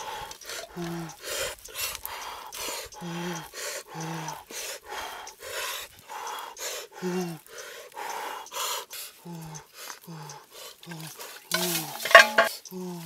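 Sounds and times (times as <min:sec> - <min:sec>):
man breathing heavily: 0:00.0 - 0:13.0.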